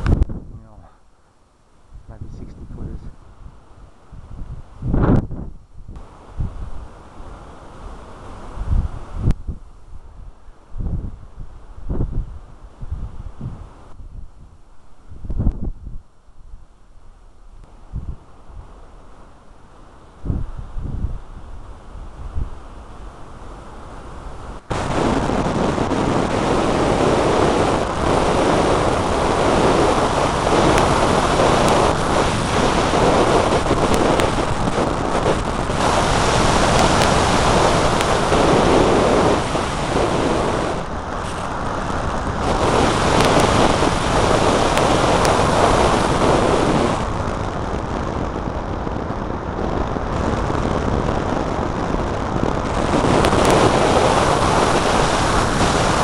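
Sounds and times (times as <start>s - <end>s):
wind rushing over microphone: 0.0s - 1.0s, 1.8s - 56.0s.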